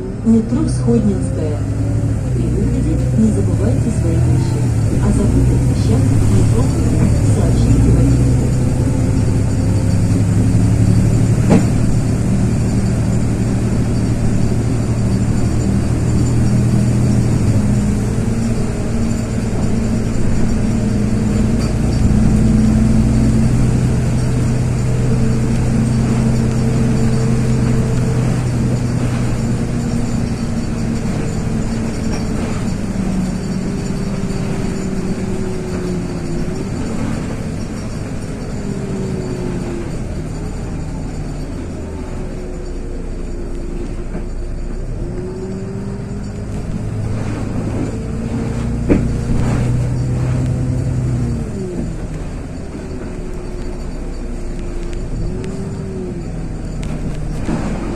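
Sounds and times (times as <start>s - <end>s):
bus diesel engine drone: 0.0s - 57.9s.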